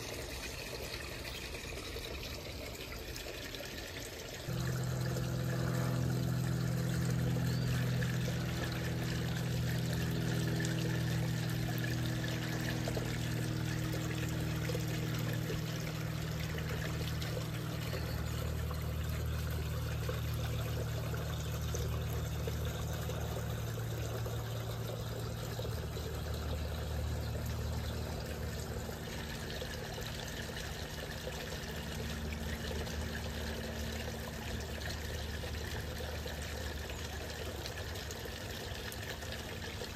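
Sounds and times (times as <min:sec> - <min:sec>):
water trickling into pond: 0:00.0 - 0:39.9
low steady hum: 0:03.5 - 0:39.9.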